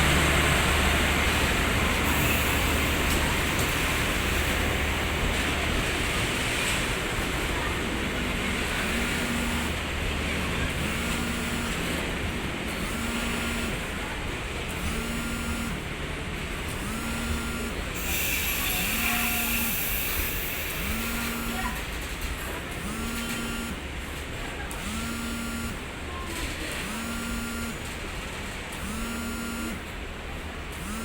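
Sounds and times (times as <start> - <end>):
diesel locomotive idling: 0.0 - 25.1.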